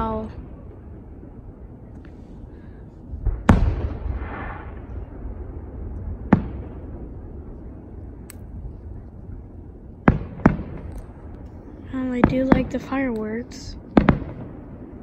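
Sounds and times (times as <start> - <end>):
fireworks booming: 0.0 - 15.0
low rumble: 0.0 - 15.0.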